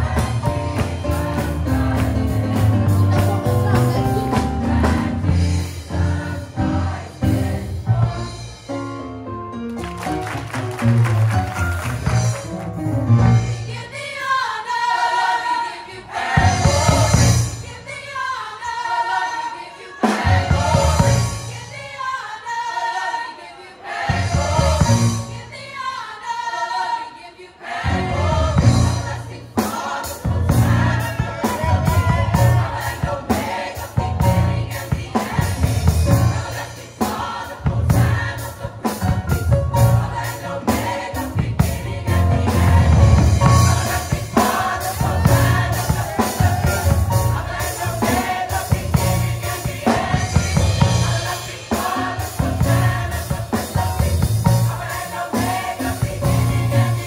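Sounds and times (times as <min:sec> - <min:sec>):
choir singing carol: 0:00.0 - 0:08.6, 0:13.2 - 0:57.0
drum kit beat: 0:00.0 - 0:14.4, 0:16.2 - 0:18.4, 0:20.0 - 0:22.0, 0:24.0 - 0:25.6, 0:27.9 - 0:57.0.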